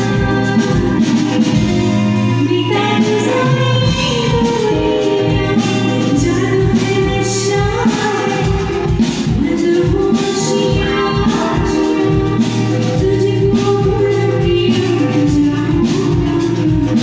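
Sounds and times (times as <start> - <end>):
live band playing: 0.0 - 17.0
steady drum beat: 0.0 - 17.0
woman singing into a microphone: 0.0 - 17.0.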